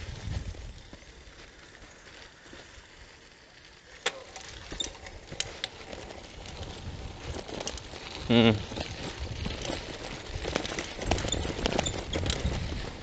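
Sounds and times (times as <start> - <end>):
bicycle rolling on dirt road: 0.0 - 13.0.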